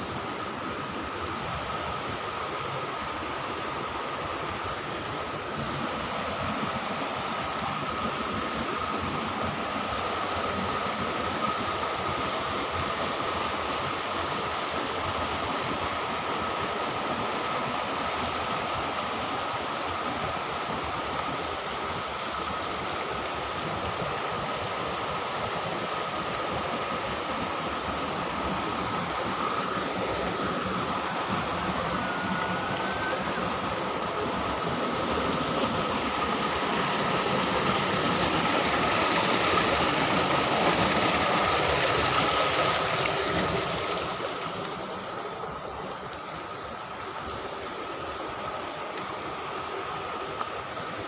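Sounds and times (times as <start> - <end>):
river water rushing over rocks: 0.0 - 51.0.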